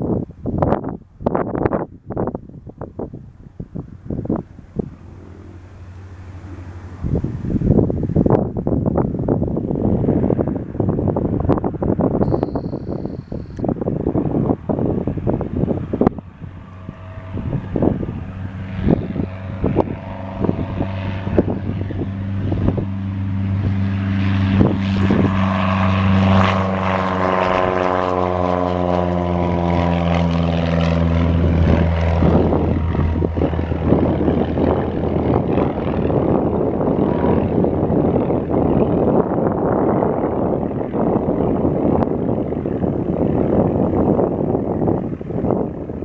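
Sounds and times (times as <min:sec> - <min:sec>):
propeller plane engine passing: 0:00.0 - 0:46.0
wind buffeting microphone: 0:00.0 - 0:46.0.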